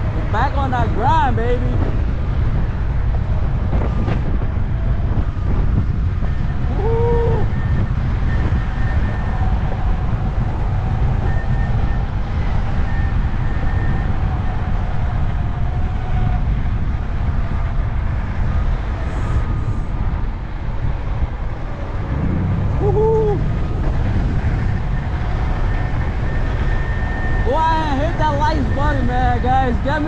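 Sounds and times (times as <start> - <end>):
scooter road noise: 0.0 - 30.0
wind rumble on microphone: 0.0 - 30.0.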